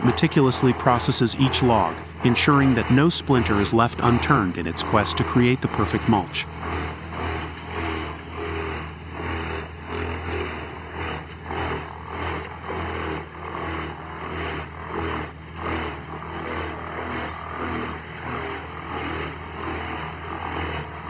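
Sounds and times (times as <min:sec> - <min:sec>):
trees being chipped: 0:00.0 - 0:21.0
wood chipper engine drone: 0:00.0 - 0:21.0.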